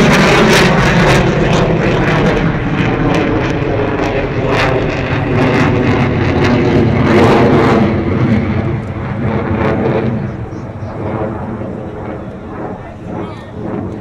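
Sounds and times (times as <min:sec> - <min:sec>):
jet flying overhead: 0:00.0 - 0:14.0.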